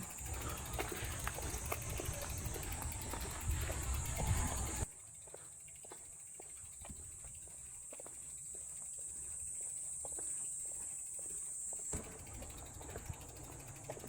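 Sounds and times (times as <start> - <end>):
high-pitched insect chorus: 0.0 - 14.0
light footsteps: 0.2 - 14.0.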